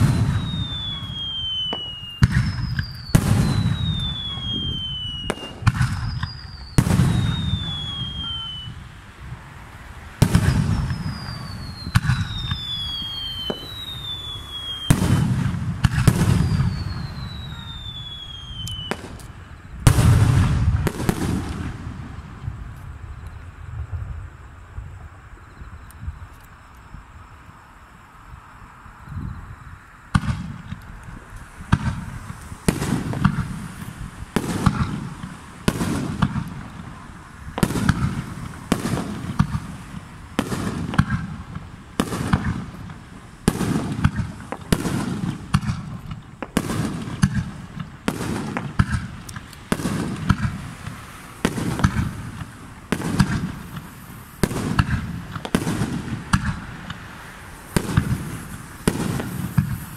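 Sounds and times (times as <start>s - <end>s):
firework shells booming: 0.0s - 8.9s, 10.2s - 22.8s, 30.1s - 59.9s.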